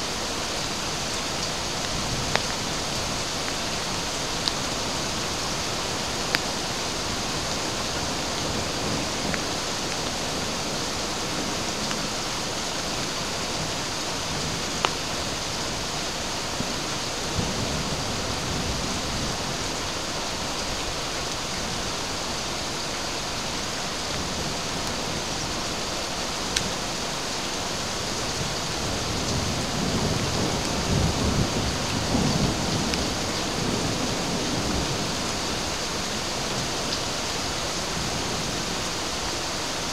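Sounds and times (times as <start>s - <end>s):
heavy rain and ice hissing: 0.0s - 39.9s.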